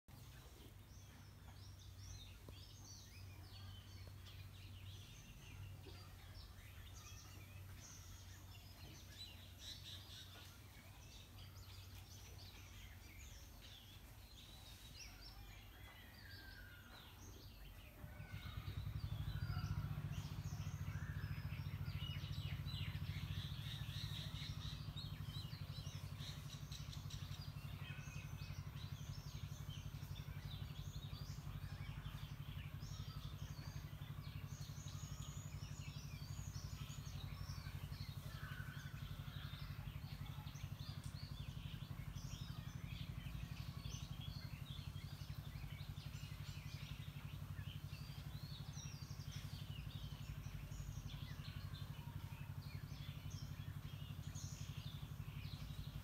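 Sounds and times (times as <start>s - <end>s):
small birds chirping: 0.0s - 56.0s
low steady hum: 0.1s - 56.0s.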